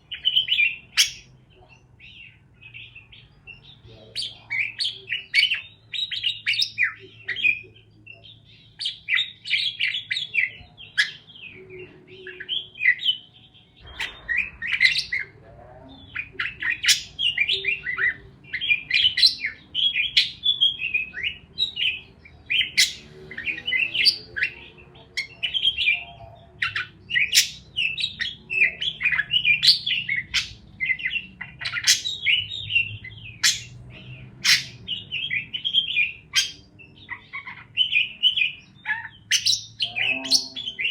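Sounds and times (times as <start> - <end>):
parakeets chirping: 0.0 - 40.9.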